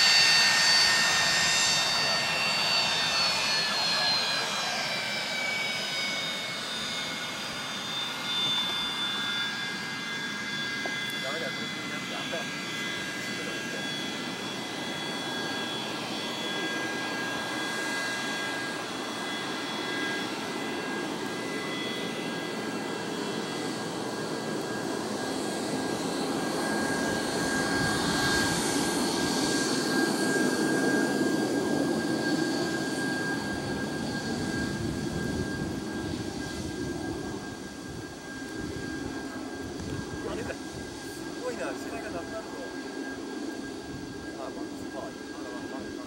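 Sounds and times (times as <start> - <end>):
high engine whine: 0.0 - 46.0
jet engine rumble: 0.0 - 46.0.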